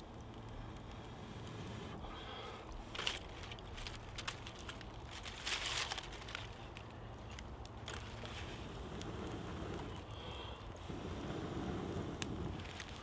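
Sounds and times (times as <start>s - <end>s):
twigs and leaves crinkling and snapping: 0.0s - 11.0s, 12.1s - 13.0s
campfire crackling: 0.0s - 13.0s.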